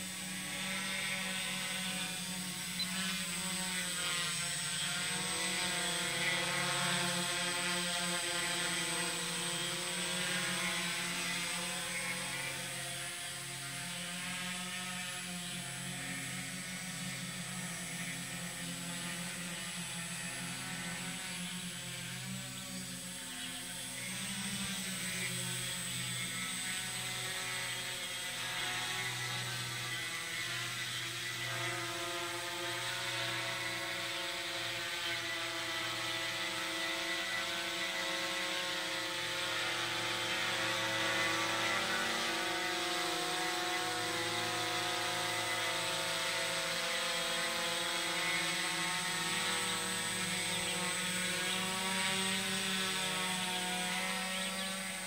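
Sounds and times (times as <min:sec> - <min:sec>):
small aircraft motor: 0:00.0 - 0:55.0.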